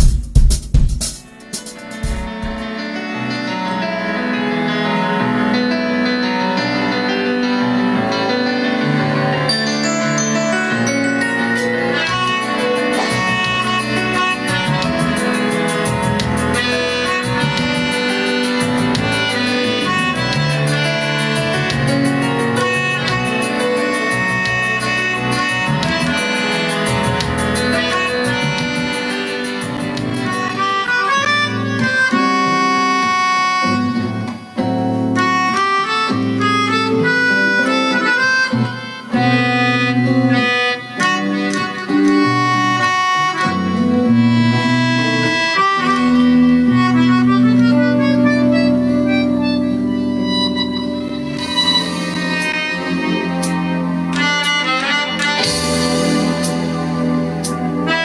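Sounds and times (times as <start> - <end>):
bass line accompaniment: 0.0 - 2.7, 6.4 - 58.0
melodica melody: 1.1 - 3.3, 8.0 - 58.0.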